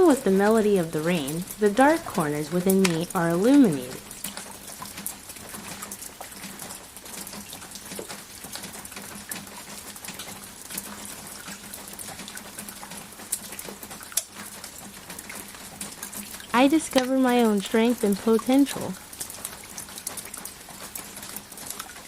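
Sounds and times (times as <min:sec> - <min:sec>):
raindrops ticking: 0:00.0 - 0:22.0
steady rain falling: 0:00.0 - 0:22.0.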